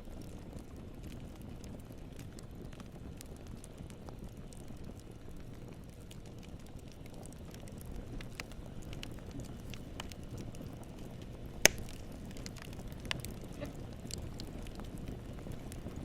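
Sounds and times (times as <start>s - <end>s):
campfire flames rumbling: 0.0s - 16.0s
wood crackling and popping: 0.0s - 16.0s.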